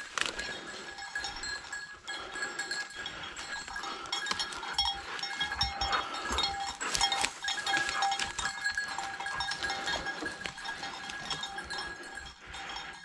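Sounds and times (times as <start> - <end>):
brush crackling: 0.0 - 1.4, 2.5 - 12.0
dog collar bell jingling: 0.0 - 13.0.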